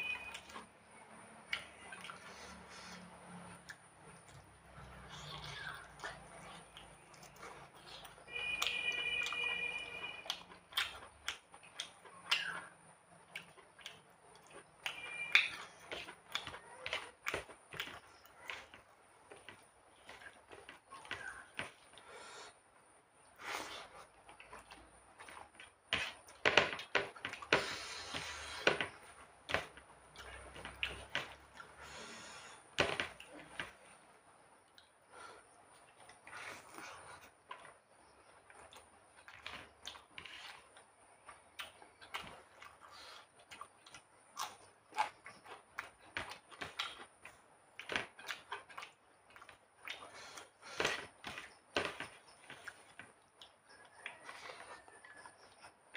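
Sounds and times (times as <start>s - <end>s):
person chewing: 1.4s - 22.6s, 23.3s - 33.8s, 34.6s - 55.9s.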